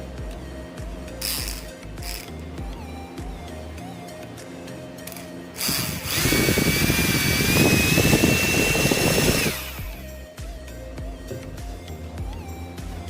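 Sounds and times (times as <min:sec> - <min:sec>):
electric motor fan high whine: 0:00.0 - 0:13.0.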